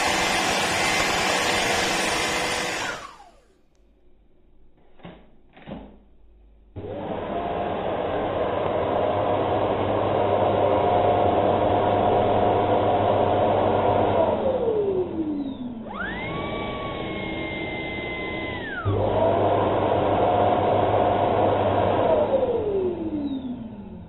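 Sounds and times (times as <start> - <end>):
vacuum cleaner motor whining: 0.0 - 3.5, 6.8 - 24.0.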